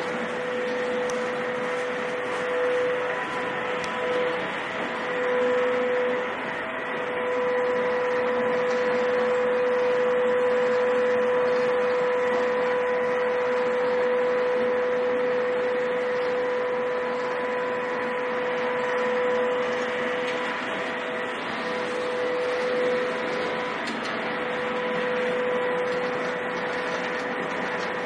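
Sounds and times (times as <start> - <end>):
machinery droning: 0.0 - 28.0.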